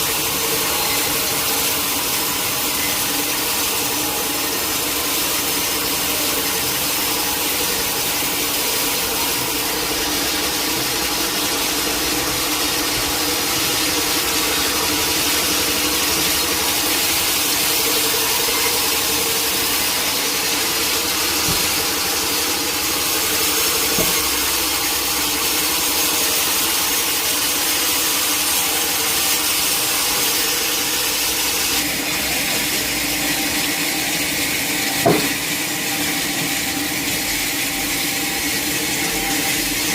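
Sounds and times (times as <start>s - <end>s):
saw blade hissing through log: 0.0s - 39.9s
sawmill machine hum: 0.0s - 39.9s.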